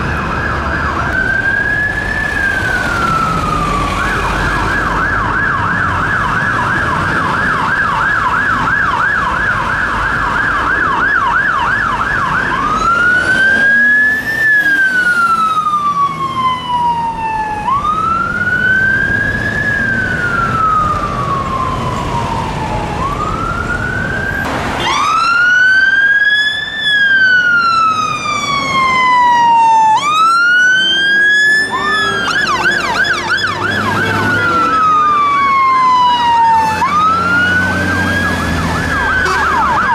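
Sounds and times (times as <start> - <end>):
fire engine siren wail: 0.0 - 39.9
fire engine siren yelp: 0.0 - 39.9.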